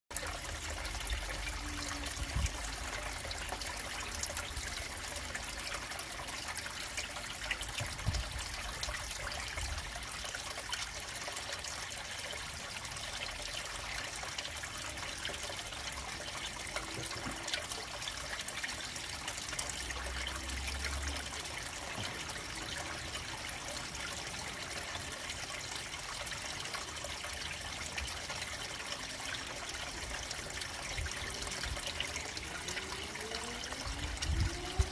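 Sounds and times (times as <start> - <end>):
water trickling into pond: 0.1 - 34.9.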